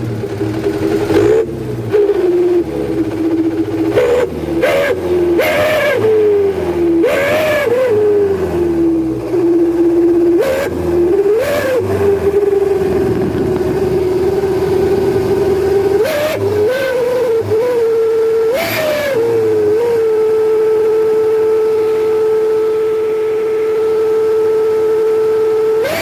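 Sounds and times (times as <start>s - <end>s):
truck exhaust howling: 0.0s - 26.0s.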